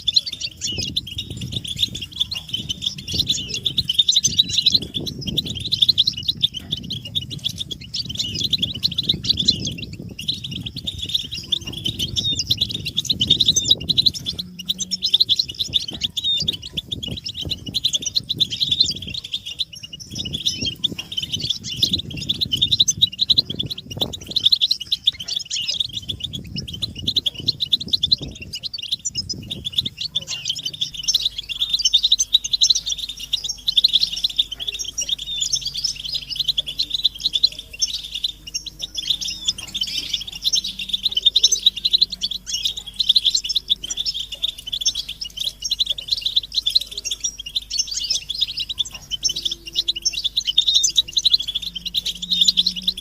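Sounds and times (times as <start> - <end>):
finches twittering: 0.0 - 53.0.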